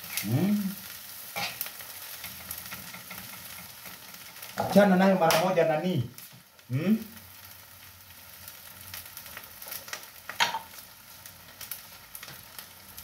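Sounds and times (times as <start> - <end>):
frying in oil sizzling: 0.0 - 13.0.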